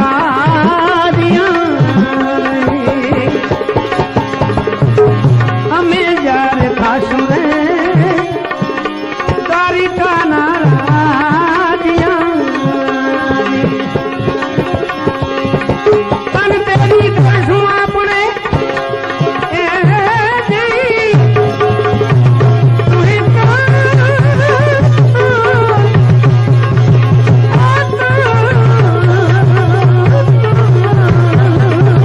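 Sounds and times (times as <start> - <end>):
ornamented melodic instrument: 0.0 - 32.0
tabla rhythm: 0.0 - 32.0.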